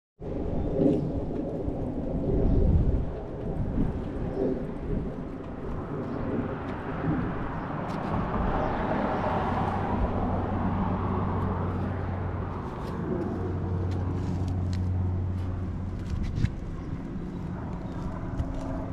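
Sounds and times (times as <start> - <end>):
road vehicle passing: 0.2 - 18.9
steady low hum: 0.2 - 18.9
wind noise on microphone: 0.2 - 18.9.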